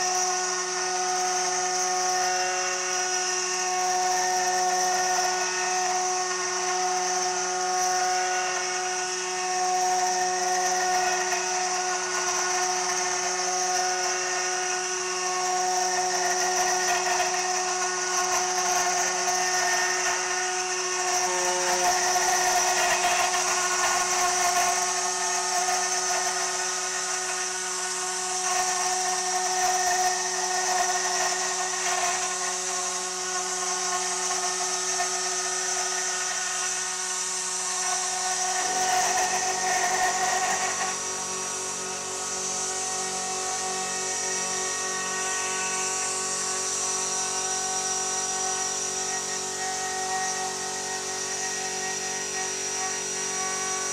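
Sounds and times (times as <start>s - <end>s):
milling aluminium cutting noise: 0.0s - 53.9s
router spindle high-pitched whine: 0.0s - 53.9s.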